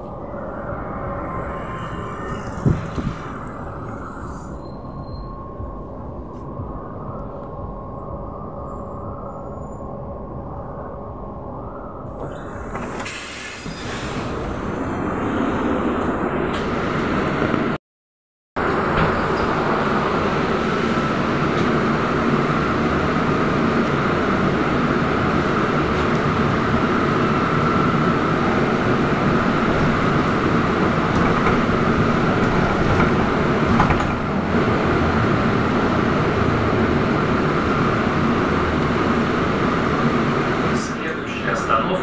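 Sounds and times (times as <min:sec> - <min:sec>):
trolleybus running noise: 0:00.0 - 0:10.5, 0:12.0 - 0:17.8, 0:18.6 - 0:42.0.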